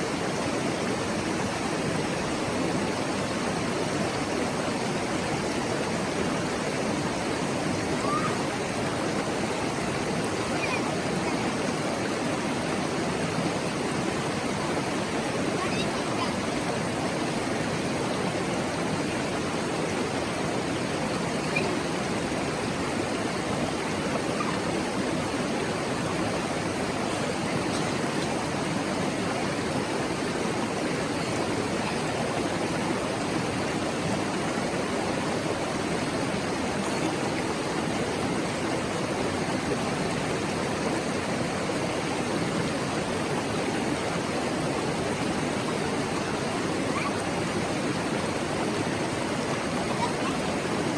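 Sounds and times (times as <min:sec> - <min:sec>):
river water babbling over rocks: 0:00.0 - 0:50.9.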